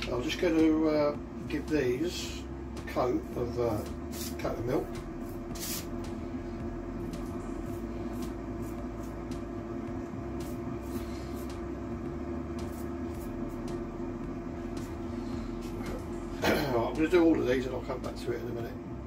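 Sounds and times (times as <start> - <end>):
air fryer fan humming: 0.0 - 19.0.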